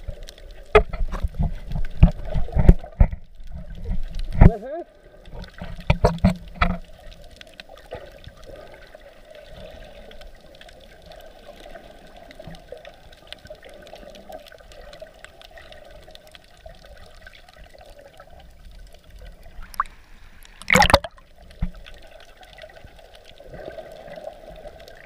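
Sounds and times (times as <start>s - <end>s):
faint crackling clicks: 0.0s - 25.0s
muffled underwater wash: 0.0s - 25.0s.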